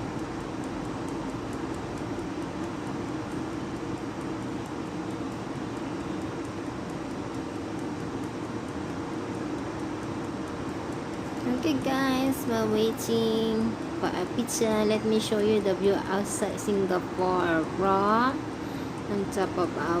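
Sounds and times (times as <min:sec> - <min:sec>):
air fryer fan humming: 0:00.0 - 0:20.0.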